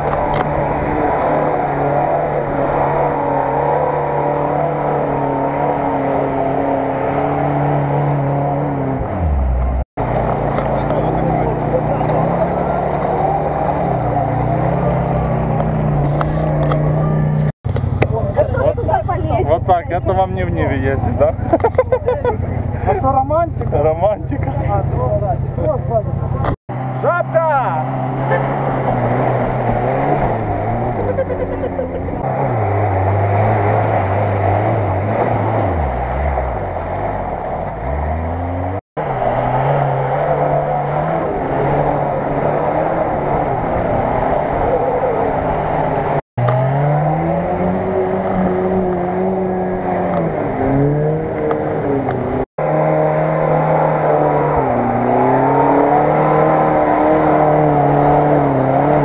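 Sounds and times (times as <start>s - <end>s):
car churning through mud: 0.0s - 17.5s, 26.4s - 59.0s
car engine revving: 0.0s - 59.0s.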